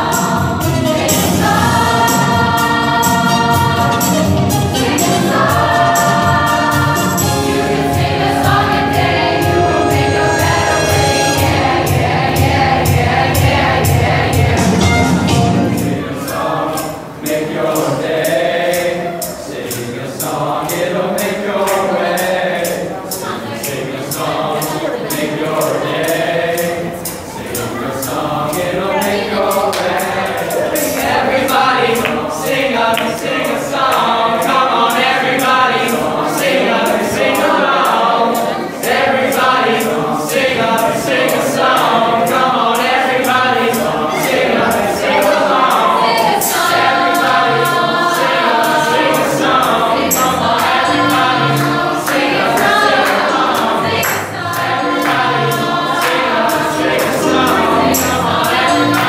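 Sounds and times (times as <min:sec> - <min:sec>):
choir singing held chords: 0:00.0 - 0:59.0
crisp ticking beat: 0:00.0 - 0:59.0.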